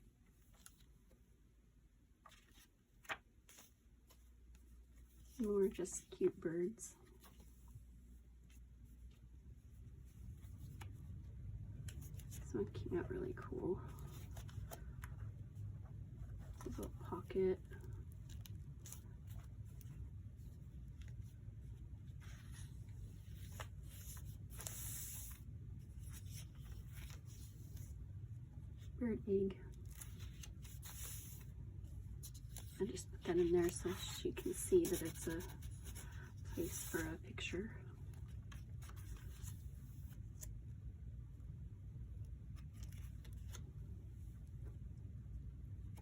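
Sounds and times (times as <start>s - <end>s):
low steady hum: 0.0s - 46.0s
paper rustling and crinkling: 2.2s - 6.2s, 7.0s - 28.0s, 29.7s - 37.4s, 38.0s - 40.6s, 42.3s - 44.3s.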